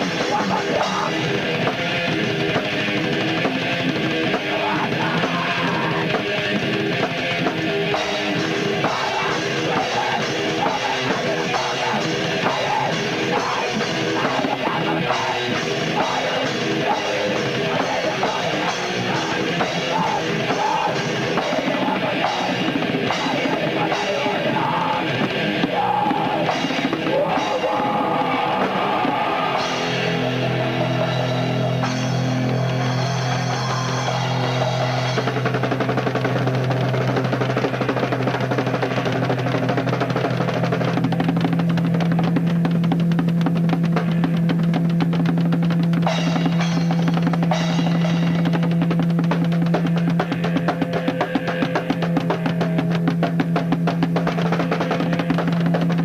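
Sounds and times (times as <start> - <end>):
heavy metal band playing: 0.0 - 56.0.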